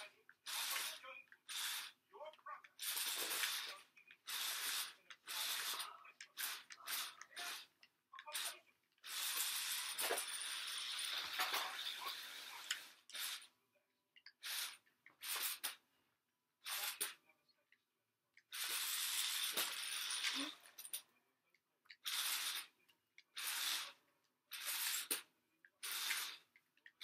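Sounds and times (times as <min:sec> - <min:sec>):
toy car electric motors whirring: 0:00.0 - 0:02.0, 0:02.7 - 0:13.5, 0:14.3 - 0:15.8, 0:16.6 - 0:17.2, 0:18.5 - 0:21.0, 0:21.9 - 0:27.0.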